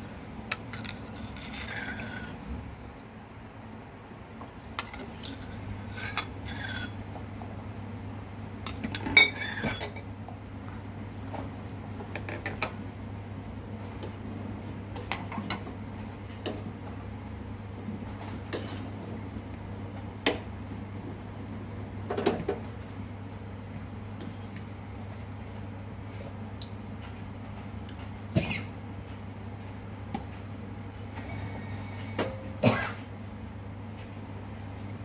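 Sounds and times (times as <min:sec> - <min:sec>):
broth boiling on gas burner: 0:00.0 - 0:35.0.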